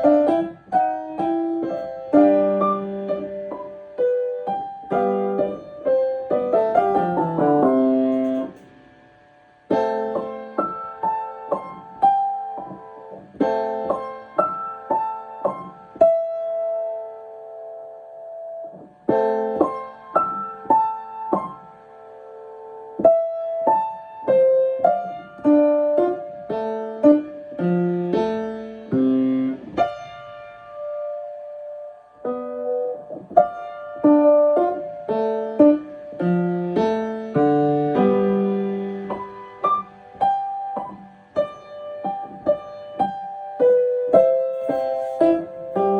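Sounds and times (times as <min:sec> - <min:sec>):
piano playing: 0:00.0 - 0:45.9.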